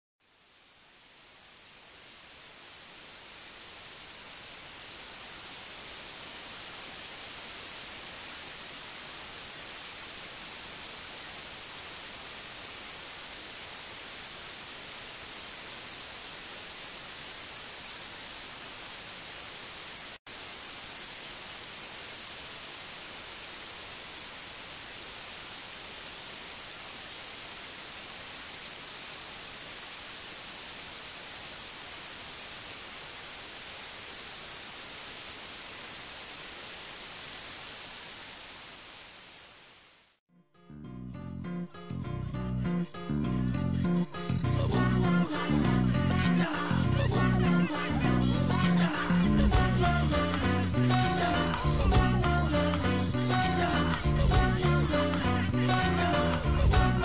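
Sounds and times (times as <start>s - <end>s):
television static hiss: 0.2s - 40.2s, 44.7s - 57.0s.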